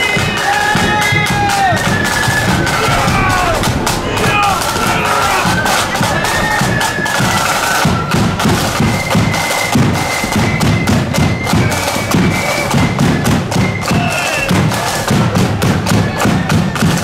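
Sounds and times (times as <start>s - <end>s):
flutes playing melody: 0.0s - 17.0s
snare drums: 0.0s - 17.0s.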